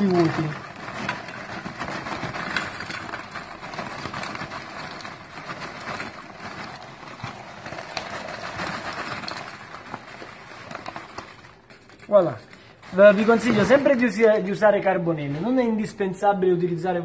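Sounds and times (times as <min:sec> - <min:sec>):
paper bag rustling: 0:00.0 - 0:15.9.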